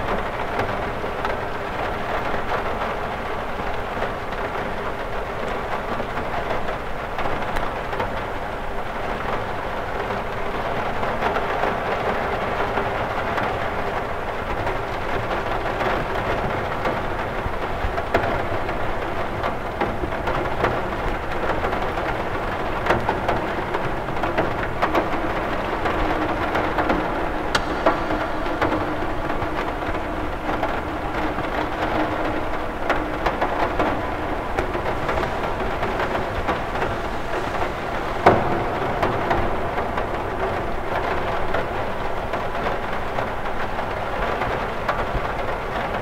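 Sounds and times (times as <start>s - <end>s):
rain on a window: 0.0s - 46.0s.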